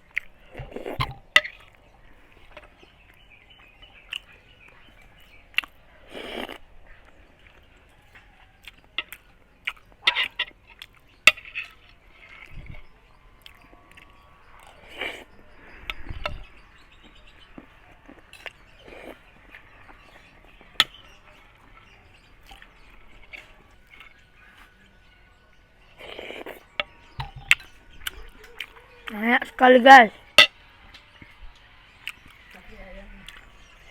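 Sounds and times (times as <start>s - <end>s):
chewing and mouth smacks: 0.0s - 24.8s, 26.0s - 29.6s, 32.0s - 32.6s, 33.2s - 33.8s.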